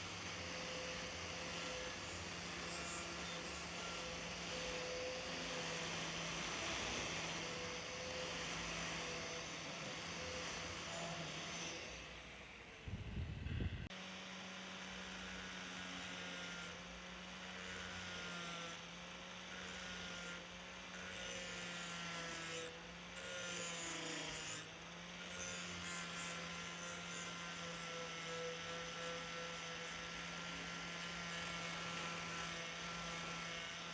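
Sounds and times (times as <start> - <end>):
grinding on steel blade: 0.0 - 12.5, 14.8 - 33.9
power tool motor humming: 0.0 - 33.9.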